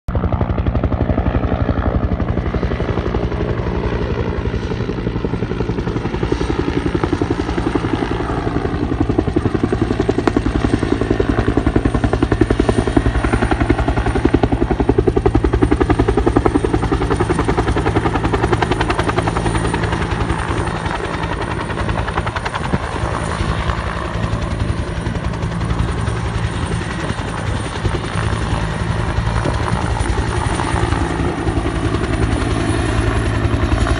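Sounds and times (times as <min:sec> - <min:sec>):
helicopter engine and rotor: 0:00.1 - 0:33.9.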